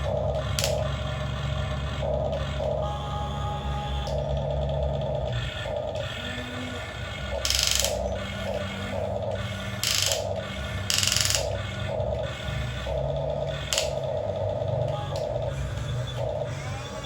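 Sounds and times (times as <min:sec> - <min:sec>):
small electric motors whirring: 0:00.0 - 0:17.0.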